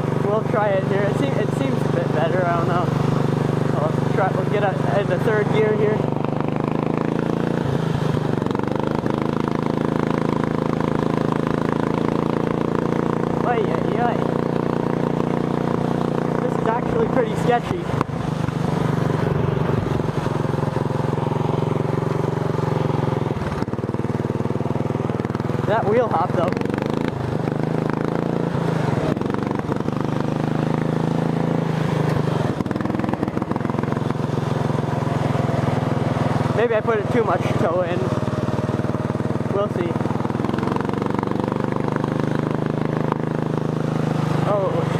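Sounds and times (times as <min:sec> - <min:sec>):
lawn tractor engine running hard: 0:00.0 - 0:44.9.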